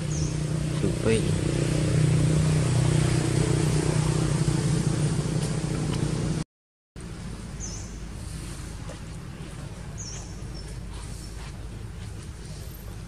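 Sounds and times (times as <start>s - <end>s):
vehicle engine humming: 0.0s - 6.4s, 7.0s - 13.0s.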